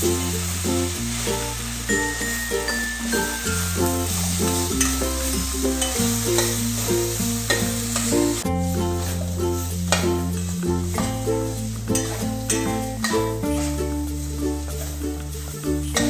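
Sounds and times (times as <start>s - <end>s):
food sizzling: 0.0s - 16.0s
light instrumental music: 0.0s - 16.0s.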